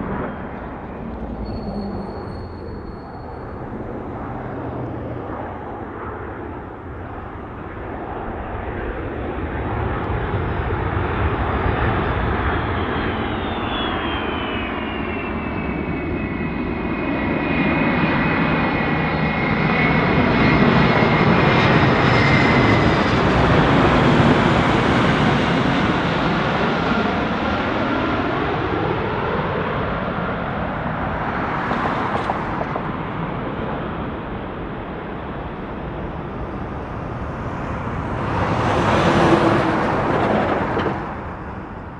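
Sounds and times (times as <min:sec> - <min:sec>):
high turbine whine: 0:00.0 - 0:41.9
jet aircraft passing: 0:00.0 - 0:41.9.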